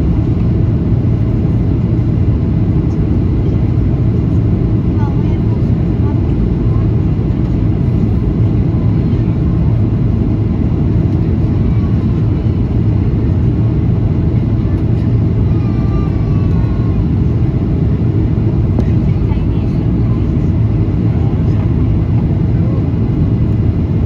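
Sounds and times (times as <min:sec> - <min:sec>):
airplane cabin engine noise: 0:00.0 - 0:24.0.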